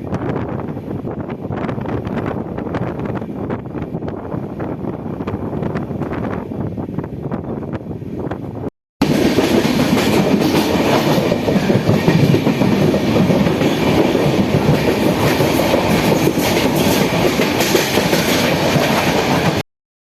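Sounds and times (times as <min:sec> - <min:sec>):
passenger train rumble and rattle: 0:00.0 - 0:19.6.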